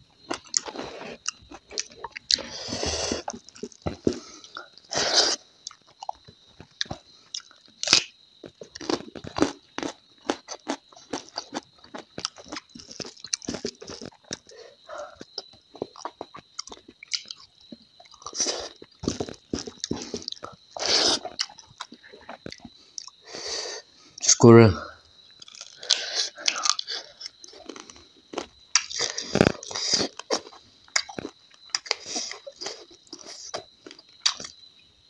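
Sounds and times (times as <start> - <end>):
person chewing crunchy food: 0.0 - 23.3, 25.2 - 34.7.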